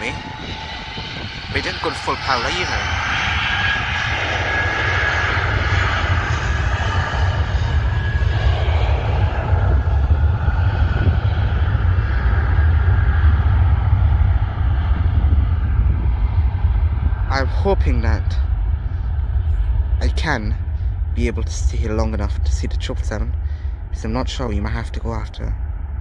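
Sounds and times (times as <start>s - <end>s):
jet engines whining: 0.0s - 26.0s
low engine rumble: 0.0s - 26.0s.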